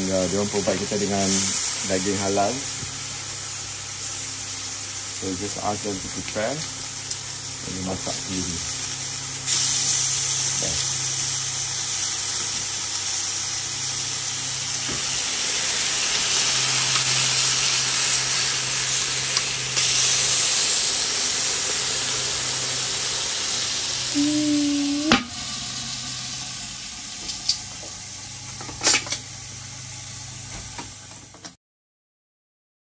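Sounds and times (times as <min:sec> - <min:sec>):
meat sizzling on a grill: 0:00.0 - 0:31.4.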